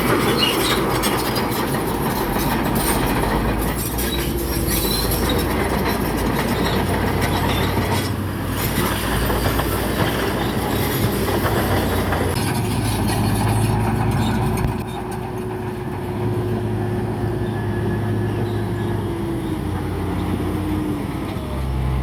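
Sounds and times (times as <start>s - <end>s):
bulldozer diesel engine: 0.0s - 22.0s
steel tracks clanking and squealing: 0.0s - 22.0s.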